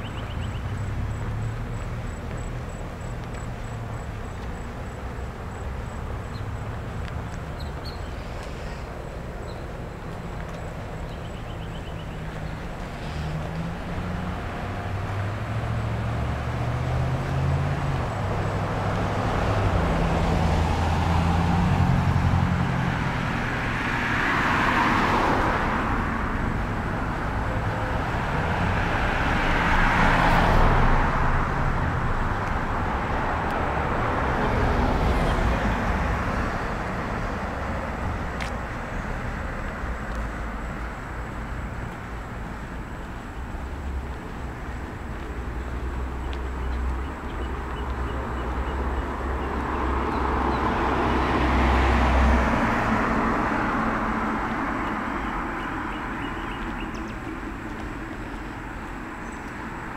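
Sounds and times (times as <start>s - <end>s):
slow car engine rumble: 0.0s - 23.0s, 30.3s - 59.9s
cars passing with tyre noise: 0.0s - 59.9s.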